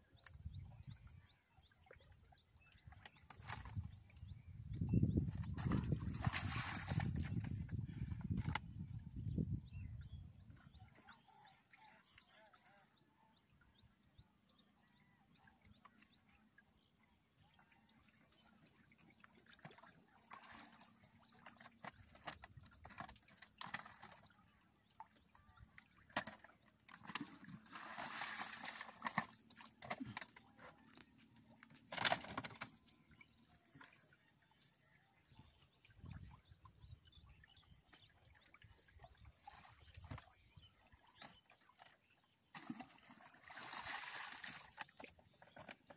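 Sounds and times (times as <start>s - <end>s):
water sloshing and splashing: 0.1s - 45.9s.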